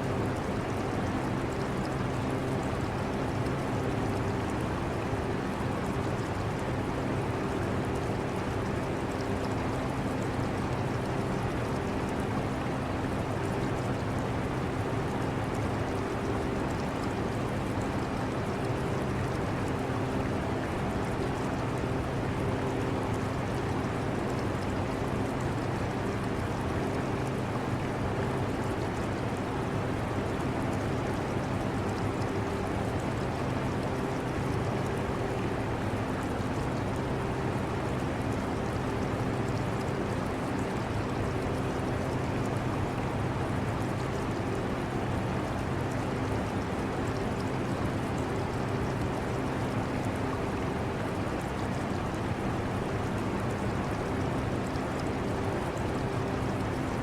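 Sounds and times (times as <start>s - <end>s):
aquarium water flowing: 0.0s - 57.0s.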